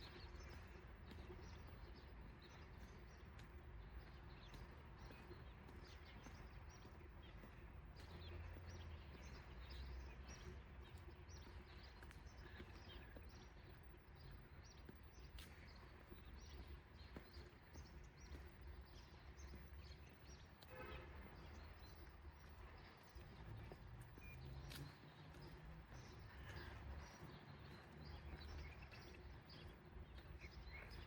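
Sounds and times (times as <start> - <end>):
small birds chirping: 0.0 - 20.8, 21.4 - 31.0.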